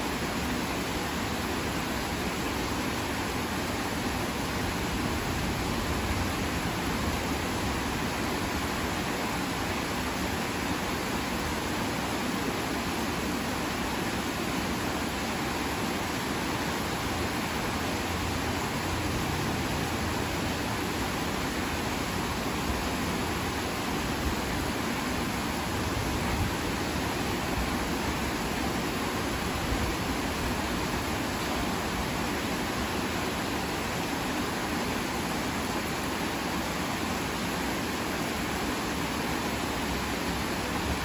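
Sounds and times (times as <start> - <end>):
heavy rain pouring: 2.0 - 11.9, 13.5 - 34.7, 36.8 - 41.0.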